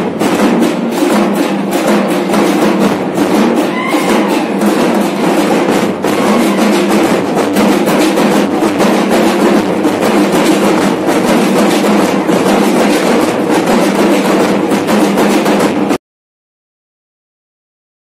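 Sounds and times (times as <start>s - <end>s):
bass drums: 0.0s - 16.0s
side drums: 0.0s - 16.0s.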